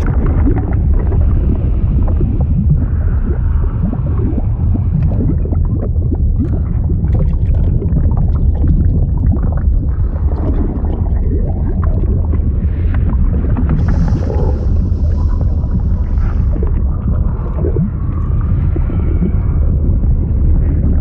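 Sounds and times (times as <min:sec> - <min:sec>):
deep rumble: 0:00.0 - 0:21.0
liquid bubbling and gurgling: 0:00.0 - 0:21.0.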